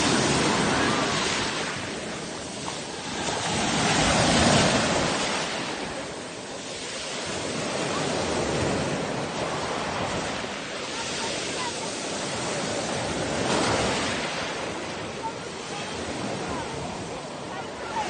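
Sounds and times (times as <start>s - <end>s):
sea waves breaking: 0.0s - 18.0s.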